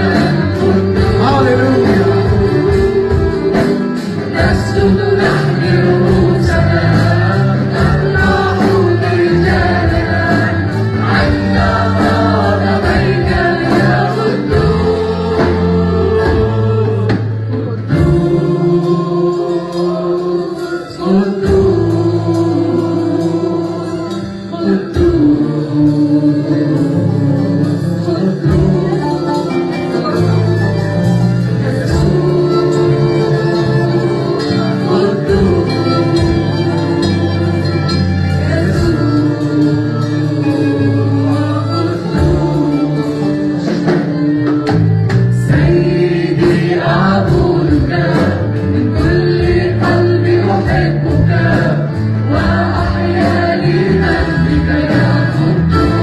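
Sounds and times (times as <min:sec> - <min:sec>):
band playing: 0:00.0 - 0:56.0
bass: 0:00.0 - 0:56.0
choir singing: 0:00.0 - 0:56.0
guitar: 0:00.0 - 0:56.0
keyboard chords: 0:00.0 - 0:56.0.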